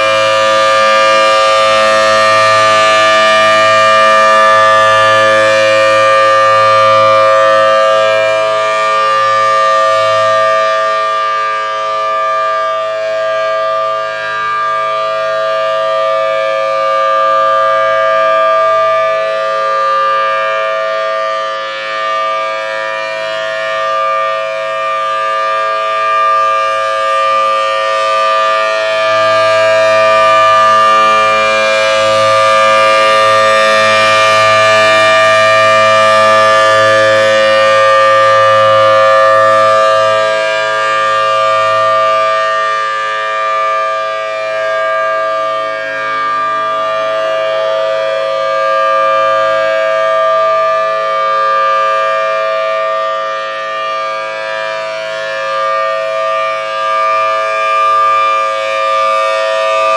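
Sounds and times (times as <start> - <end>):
civil defense siren steady tone: 0.0 - 59.9.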